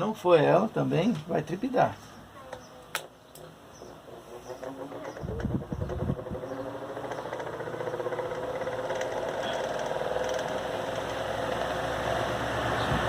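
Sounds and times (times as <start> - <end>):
electric fan humming and rattling: 0.0 - 13.0.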